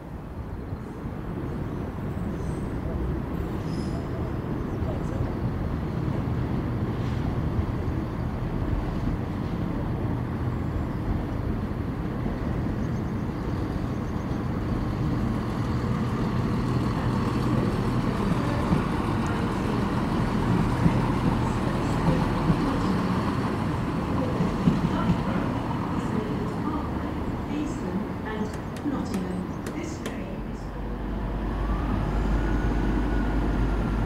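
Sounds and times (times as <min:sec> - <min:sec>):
diesel train engine rumbling: 0:00.0 - 0:34.0.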